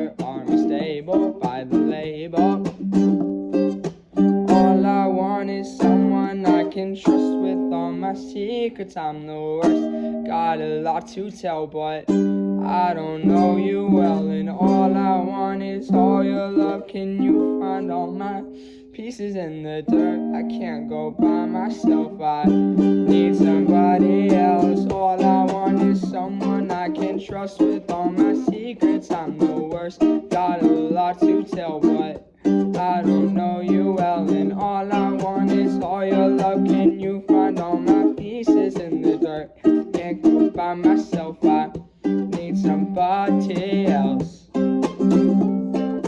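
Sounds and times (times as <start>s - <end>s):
ukulele pop music: 0.0s - 46.0s.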